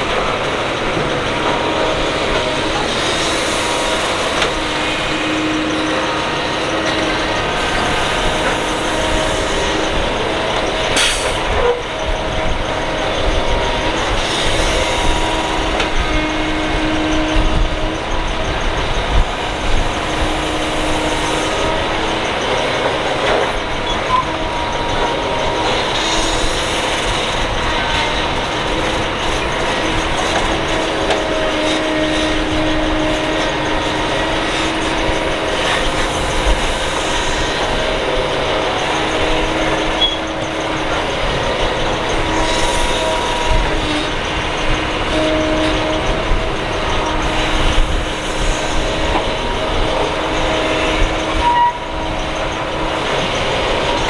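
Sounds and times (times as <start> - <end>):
excavator engine and hydraulics whine: 0.0 - 54.0.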